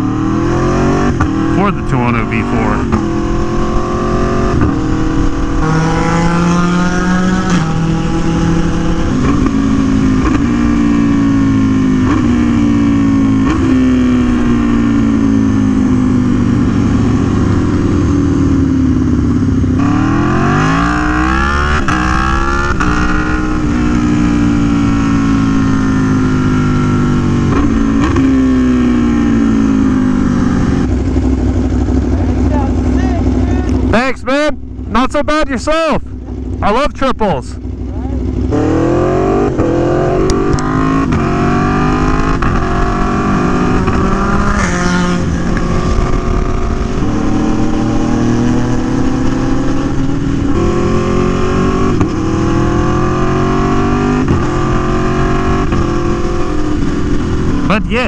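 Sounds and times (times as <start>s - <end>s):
motorcycle engine revving: 0.0s - 35.2s, 36.0s - 58.0s.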